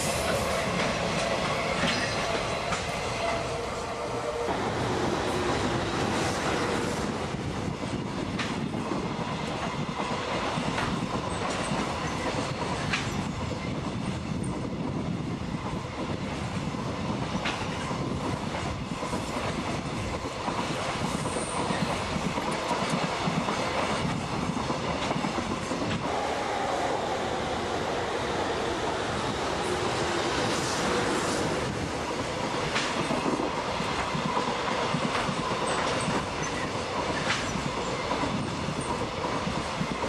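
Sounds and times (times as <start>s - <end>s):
train wheels clacking on rails: 0.0s - 26.6s, 29.2s - 40.0s.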